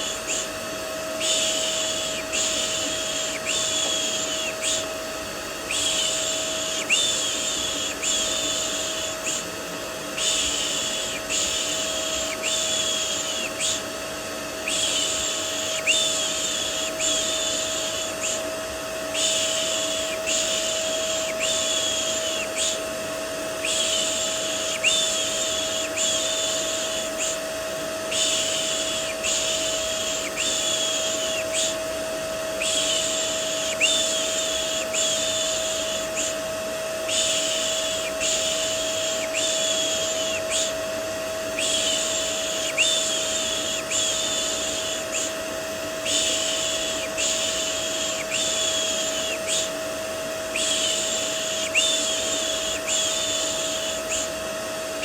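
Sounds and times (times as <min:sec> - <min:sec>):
vacuum cleaner drone: 0:00.0 - 0:55.0.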